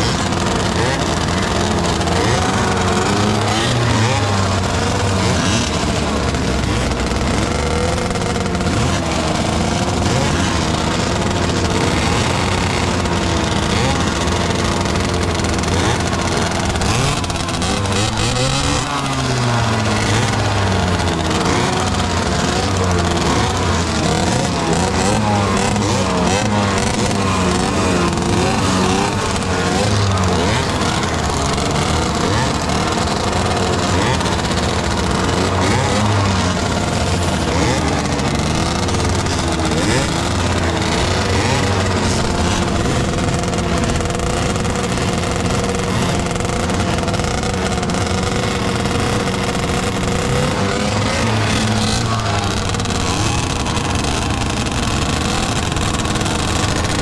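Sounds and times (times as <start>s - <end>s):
motorcycles idling and revving: 0.0s - 57.0s.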